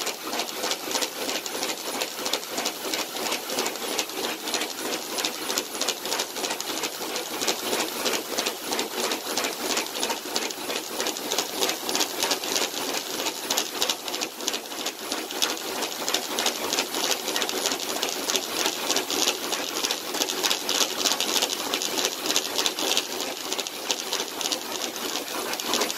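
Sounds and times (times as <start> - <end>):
paws clattering on treadmill belt: 0.0 - 25.9
treadmill rattle: 0.0 - 25.9.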